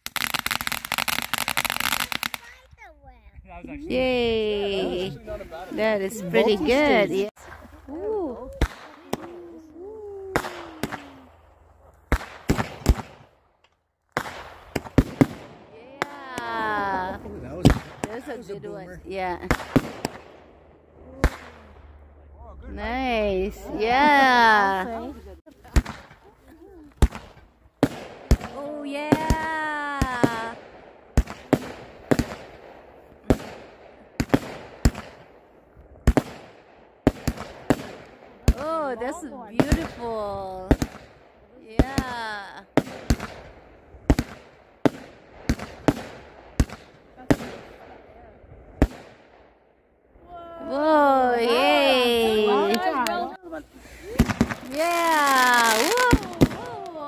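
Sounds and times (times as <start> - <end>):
fireworks bangs and crackles: 0.0 - 2.8, 8.4 - 13.4, 14.1 - 49.6, 50.9 - 57.0.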